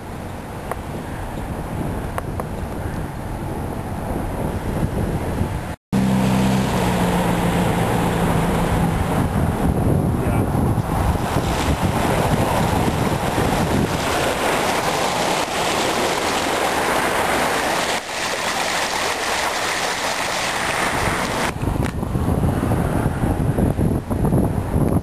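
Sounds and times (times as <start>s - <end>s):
wind buffeting microphone: 0.0s - 5.8s, 6.6s - 25.0s.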